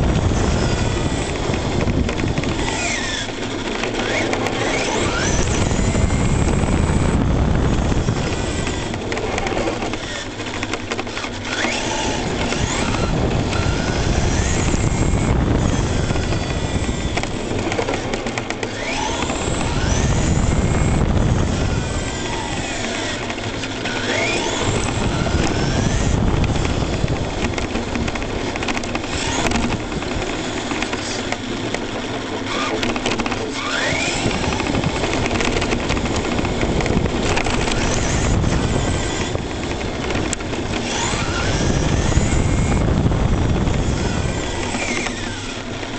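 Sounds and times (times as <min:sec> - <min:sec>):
electric motor whining: 0:00.0 - 0:45.9
tyres rumbling on asphalt: 0:00.0 - 0:45.9.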